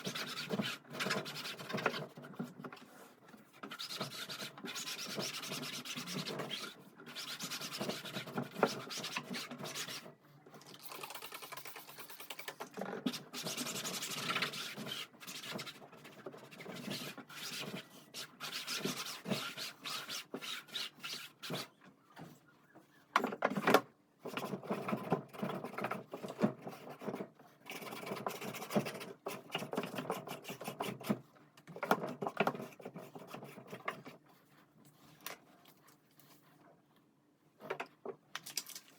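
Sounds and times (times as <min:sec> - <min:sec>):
rubbing and scraping: 0:00.0 - 0:10.3, 0:11.4 - 0:22.9, 0:24.2 - 0:36.7.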